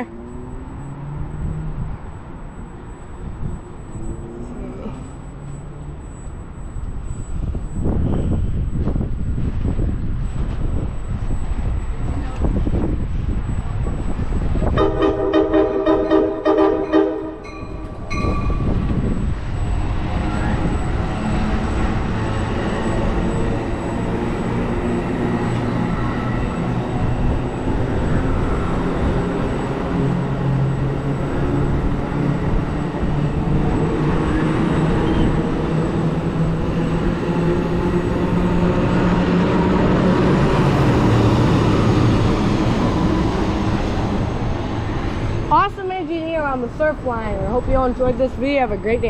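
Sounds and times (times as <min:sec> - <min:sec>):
passenger train passing: 0:00.0 - 0:49.0.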